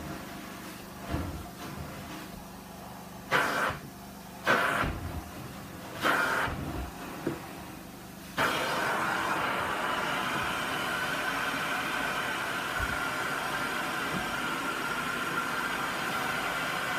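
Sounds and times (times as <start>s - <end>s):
carpet cleaner spray and suction: 0.0s - 2.4s, 3.2s - 16.9s.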